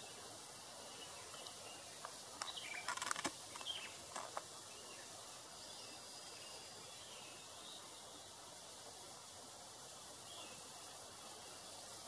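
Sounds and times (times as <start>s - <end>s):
small birds chirping: 0.0s - 8.4s, 10.1s - 12.0s
faint background hiss: 0.0s - 12.0s.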